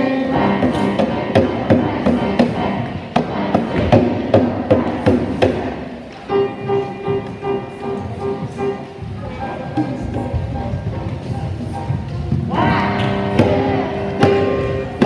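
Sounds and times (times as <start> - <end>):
frame drums beating: 0.3 - 15.0.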